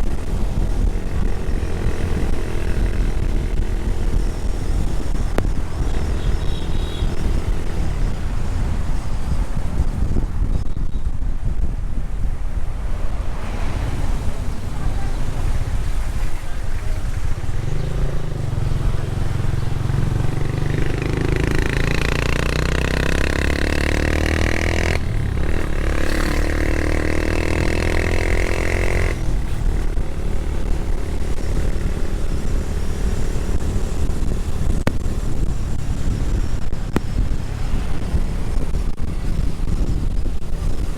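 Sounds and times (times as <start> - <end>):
motorcycle engine revving: 0.0 - 10.4, 12.7 - 40.9
wind buffeting microphone: 0.0 - 40.9.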